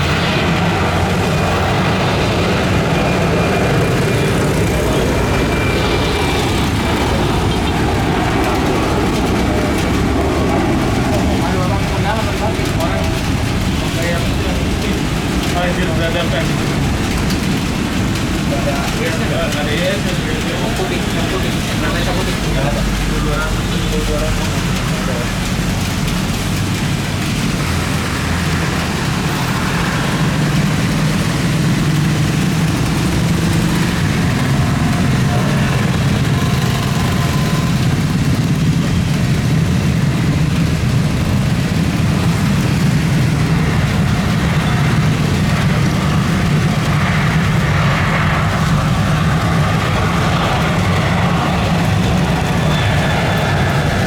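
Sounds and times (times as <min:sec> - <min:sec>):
loud low engine rumble: 0:00.0 - 0:54.0.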